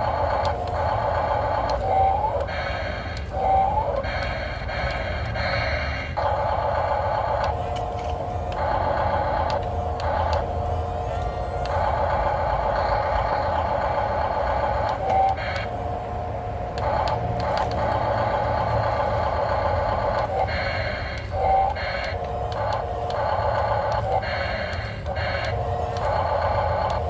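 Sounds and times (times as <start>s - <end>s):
model excavator motors whining: 0.0s - 27.0s.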